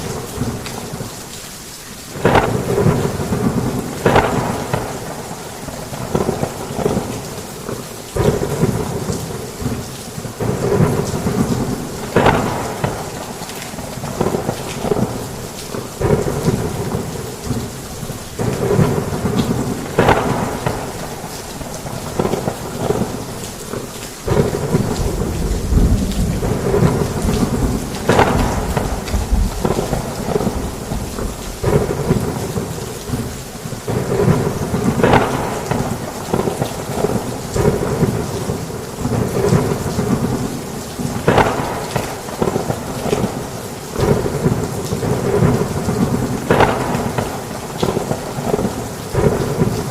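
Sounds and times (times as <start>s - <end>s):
heavy rain falling: 0.0s - 49.9s
rolling thunder: 2.1s - 7.2s, 10.4s - 49.9s
sharp thunder claps: 2.2s - 7.2s, 8.2s - 9.8s, 10.4s - 15.4s, 16.0s - 49.9s.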